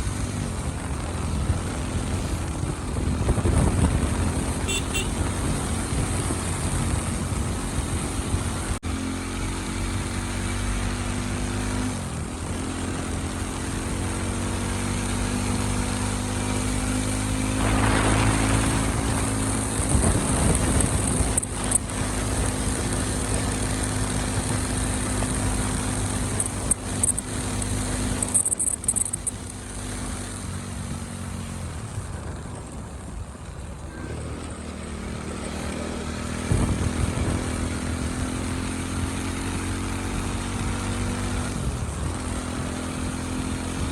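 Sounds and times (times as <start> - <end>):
motorcycle engine revving: 0.0 - 32.8, 33.8 - 43.9.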